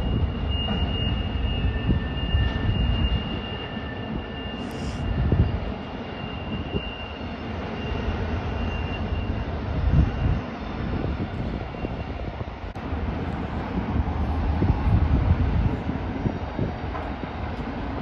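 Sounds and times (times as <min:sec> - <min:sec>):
wind buffeting microphone: 0:00.0 - 0:04.4, 0:05.0 - 0:07.6, 0:09.2 - 0:18.0
distant freight train rumble: 0:00.0 - 0:18.0.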